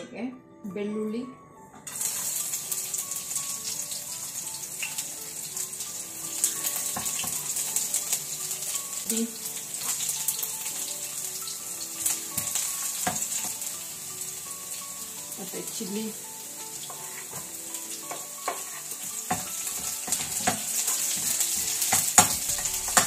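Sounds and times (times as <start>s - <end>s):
garlic sizzling in hot oil: 1.9s - 23.0s.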